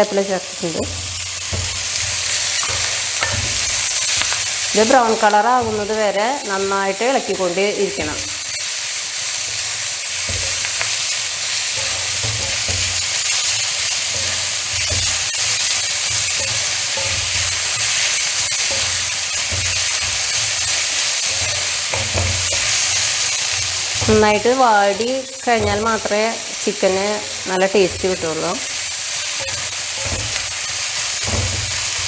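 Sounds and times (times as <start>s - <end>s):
vegetables sizzling in oil: 0.0s - 32.0s
soft knocks of stirring in pan: 0.8s - 4.8s, 9.2s - 26.2s, 27.2s - 32.0s.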